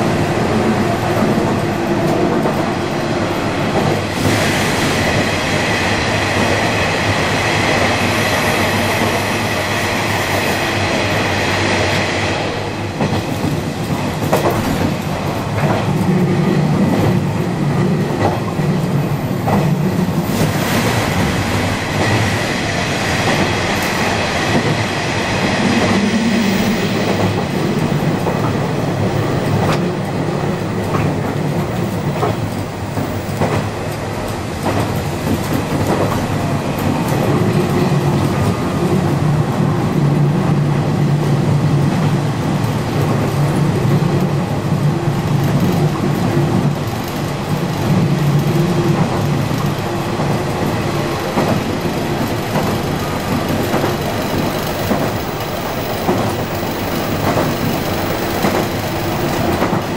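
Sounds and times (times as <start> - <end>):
railcar running rumble: 0.0 - 59.9.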